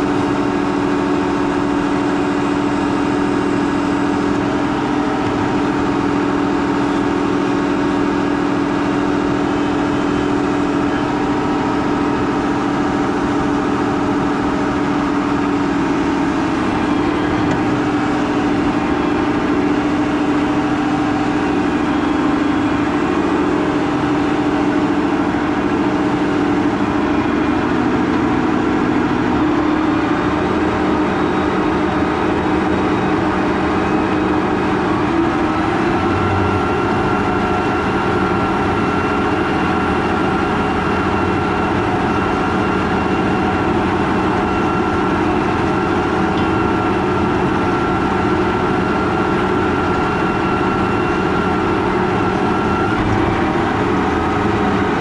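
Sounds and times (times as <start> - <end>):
heavy tractor engine drone: 0.0 - 55.0
steady whine: 0.0 - 55.0.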